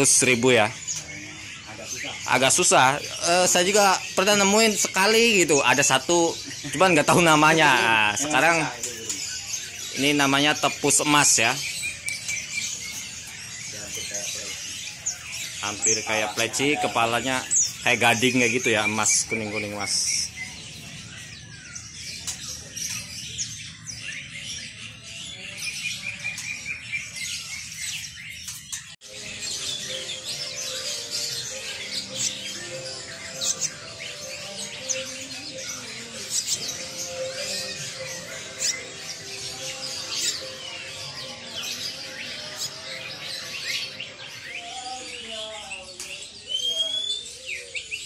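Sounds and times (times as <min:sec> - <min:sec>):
songbirds chirping and twittering: 0:00.0 - 0:48.0.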